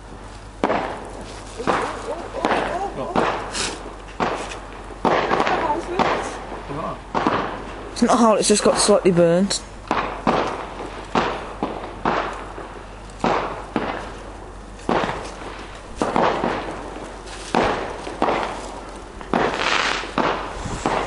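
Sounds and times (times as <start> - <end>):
firework bangs echoing: 0.6 - 9.1, 9.8 - 21.0.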